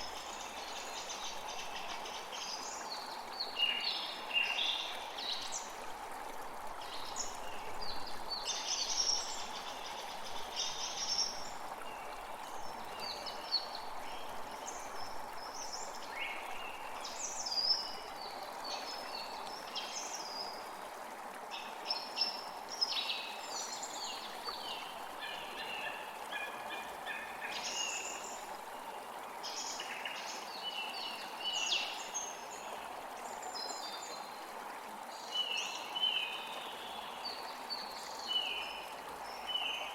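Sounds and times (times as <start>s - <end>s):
creek rushing: 0.0s - 39.9s.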